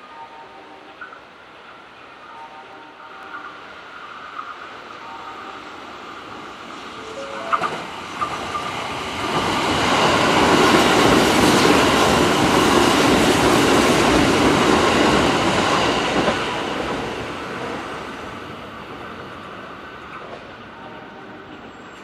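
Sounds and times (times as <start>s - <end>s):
train wheels rumbling on rails: 2.8s - 22.0s.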